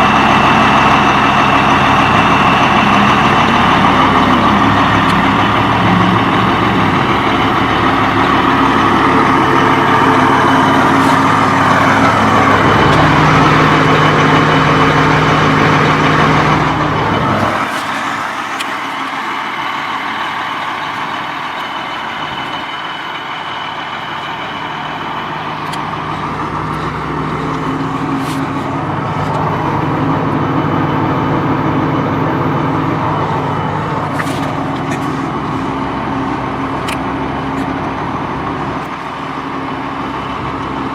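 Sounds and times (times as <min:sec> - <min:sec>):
bus engine droning: 0:00.0 - 0:40.9.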